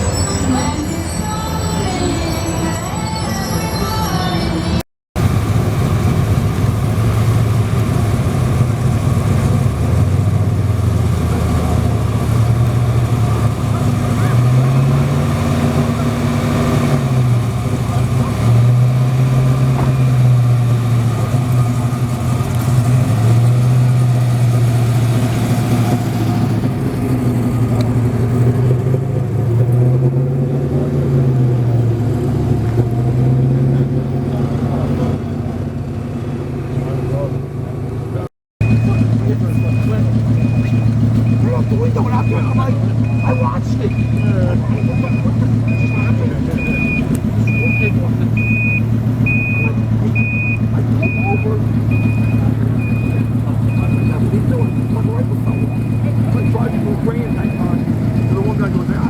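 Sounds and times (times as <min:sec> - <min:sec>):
vehicle engine revving: 0:05.2 - 0:59.0.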